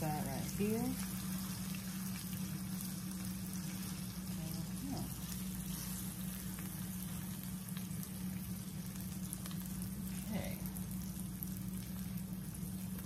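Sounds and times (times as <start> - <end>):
sandwich sizzling in a skillet: 0.0 - 13.0
steady low hum: 0.0 - 13.0.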